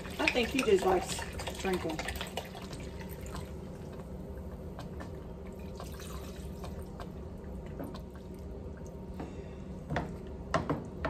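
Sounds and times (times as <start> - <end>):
liquid splashing: 0.0 - 9.2
steady low hum: 0.0 - 11.0
wet stirring clicks: 0.2 - 9.3.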